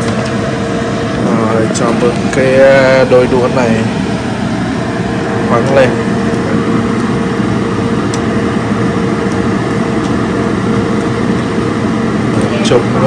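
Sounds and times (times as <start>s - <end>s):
fan whirring and humming: 0.0s - 13.0s.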